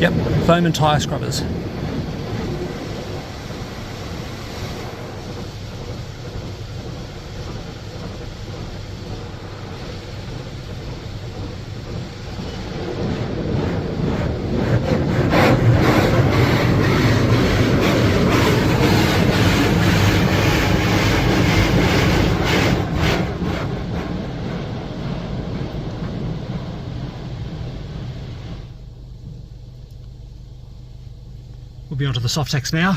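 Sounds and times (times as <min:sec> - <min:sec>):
water spray beating on car body: 0:00.0 - 0:29.4
low rumble: 0:00.0 - 0:32.9.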